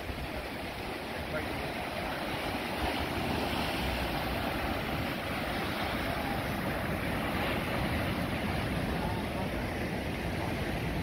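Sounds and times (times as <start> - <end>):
ocean surf breaking on rocks: 0.0 - 11.0.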